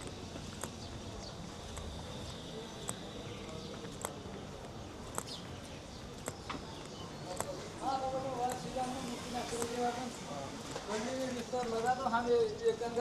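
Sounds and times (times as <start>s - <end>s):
distant voices: 0.0s - 13.0s.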